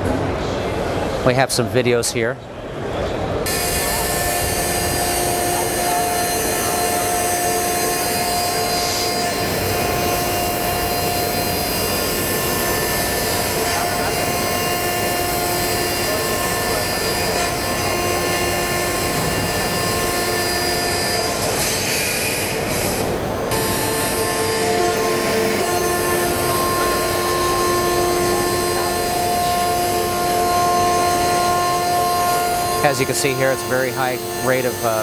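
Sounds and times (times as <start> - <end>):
milling machine cutting steel: 3.5 - 35.0.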